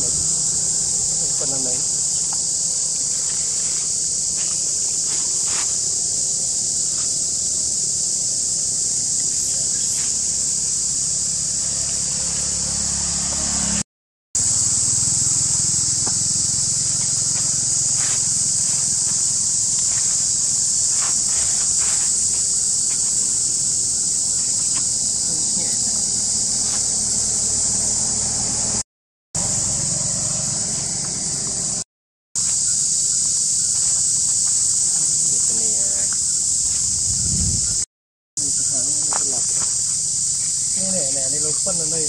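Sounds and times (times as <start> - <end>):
insects droning: 0.0 - 13.8, 14.4 - 28.8, 29.4 - 31.8, 32.4 - 42.0.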